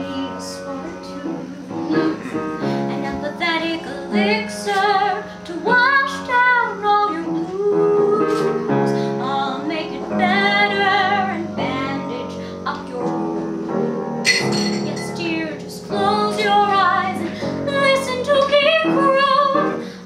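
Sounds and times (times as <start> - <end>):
woman singing with vibrato: 0.0 - 13.3, 14.8 - 20.0
piano: 0.0 - 20.0.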